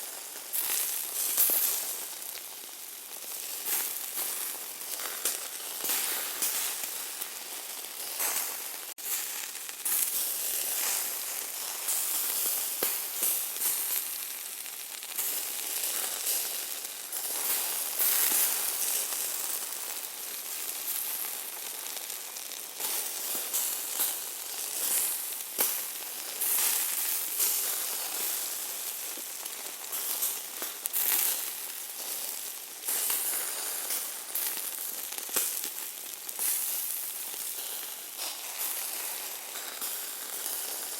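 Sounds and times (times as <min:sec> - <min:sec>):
meat sizzling with crackles: 0:00.0 - 0:40.9.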